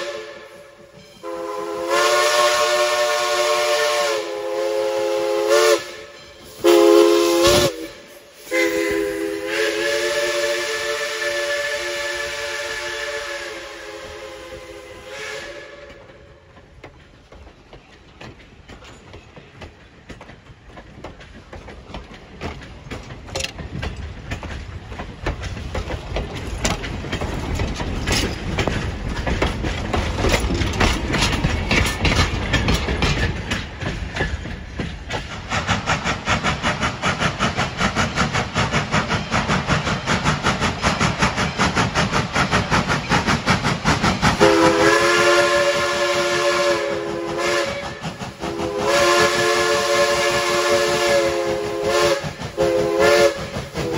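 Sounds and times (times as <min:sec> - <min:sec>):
train wheels clattering on track: 0:00.0 - 0:53.9.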